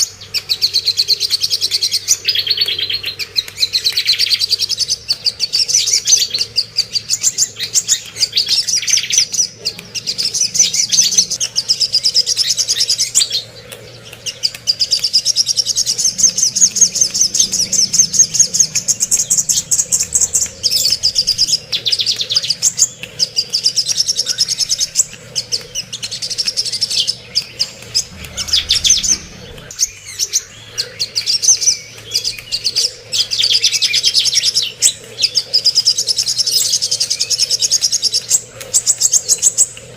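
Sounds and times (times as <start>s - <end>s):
songbird chattering trills: 0.0s - 39.9s.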